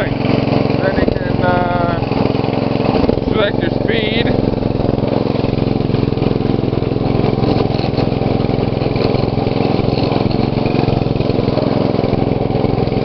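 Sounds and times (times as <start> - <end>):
lawn tractor engine running: 0.0 - 13.0.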